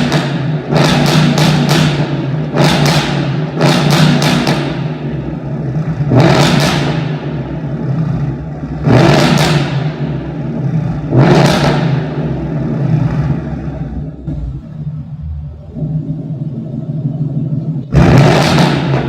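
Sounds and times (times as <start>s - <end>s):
car engine at steady revs: 0.0s - 19.0s
exhaust crackles and pops: 0.0s - 19.0s.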